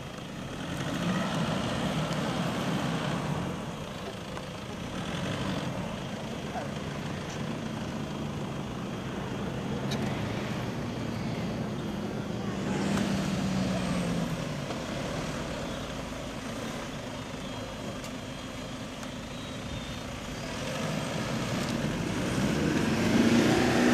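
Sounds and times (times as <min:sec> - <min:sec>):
car engine humming: 0:00.0 - 0:23.9.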